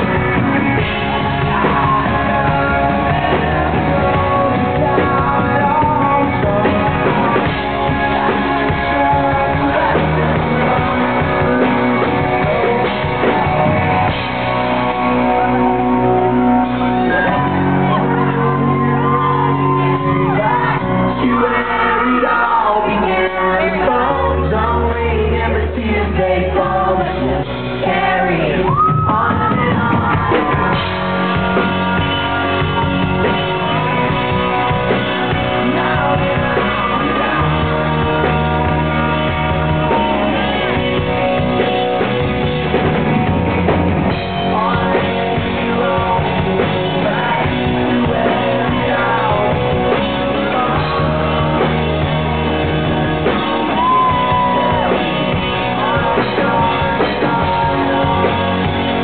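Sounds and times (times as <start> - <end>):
man singing: 0.0 - 42.5, 44.1 - 59.0
live rock band: 0.0 - 59.0.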